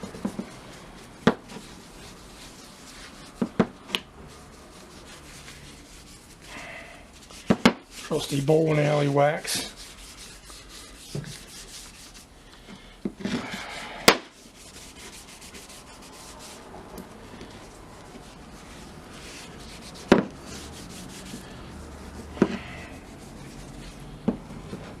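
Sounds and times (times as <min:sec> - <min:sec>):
wax rubbed on sledgehammer: 0:00.1 - 0:03.5, 0:04.3 - 0:12.3, 0:13.4 - 0:16.7, 0:17.4 - 0:24.2.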